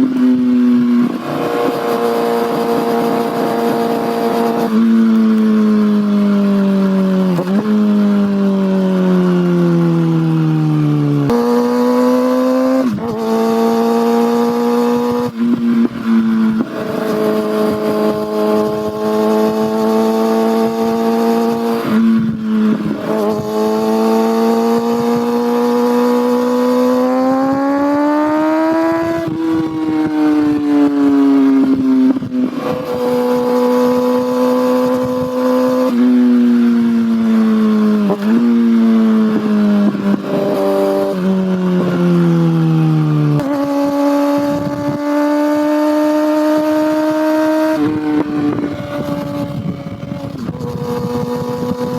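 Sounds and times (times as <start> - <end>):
motorcycle engine and exhaust: 0.0 - 51.9.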